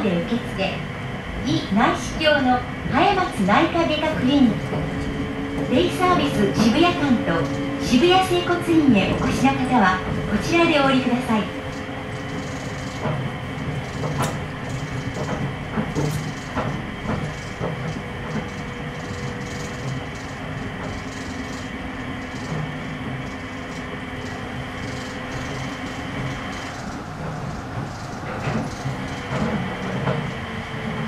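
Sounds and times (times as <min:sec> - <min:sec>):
train motor whine and hum: 0:00.0 - 0:31.0.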